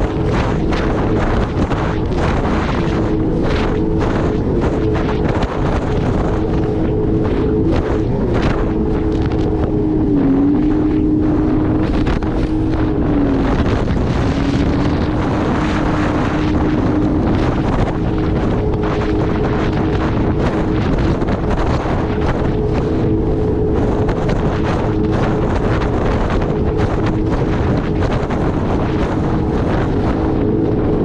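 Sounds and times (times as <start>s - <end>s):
jet ski engine running: 0.0s - 31.0s
wind noise on microphone: 0.0s - 31.0s.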